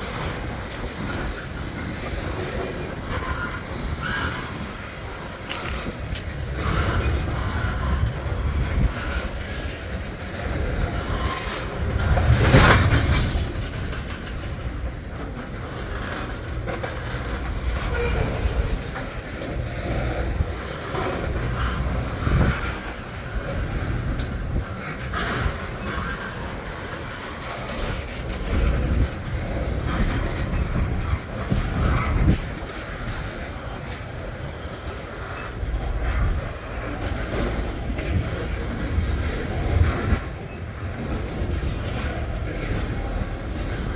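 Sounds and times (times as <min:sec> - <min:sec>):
freight train rumbling on rails: 0:00.0 - 0:43.9
knocks and clacks: 0:00.0 - 0:43.9.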